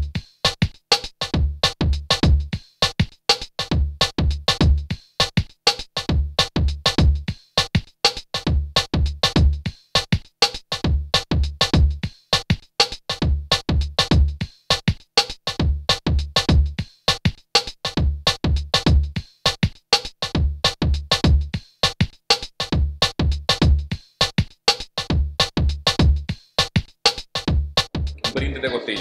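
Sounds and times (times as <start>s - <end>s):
electronic music with drum beat: 0.0s - 29.0s.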